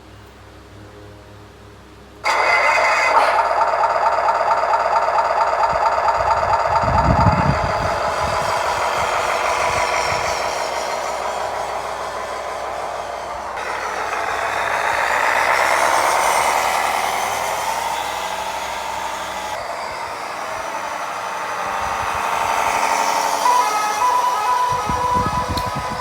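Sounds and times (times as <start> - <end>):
simulated diesel truck engine: 2.2 - 26.0.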